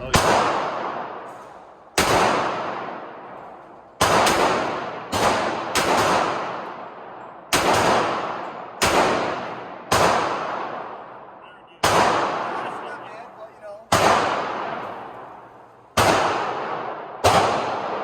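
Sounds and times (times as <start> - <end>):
pistol shots echoing: 0.0 - 18.0.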